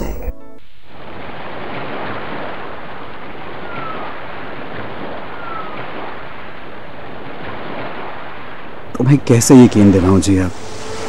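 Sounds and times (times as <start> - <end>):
waves washing on shore: 0.9 - 11.0
high falling cries: 1.1 - 11.0.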